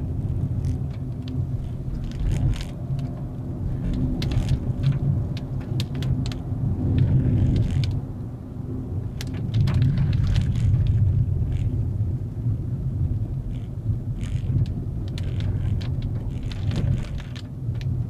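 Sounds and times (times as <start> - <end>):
car engine rumble: 0.0 - 18.0
road noise: 0.0 - 18.0
light ticks and rattles: 0.2 - 8.0, 9.1 - 11.8, 13.4 - 18.0.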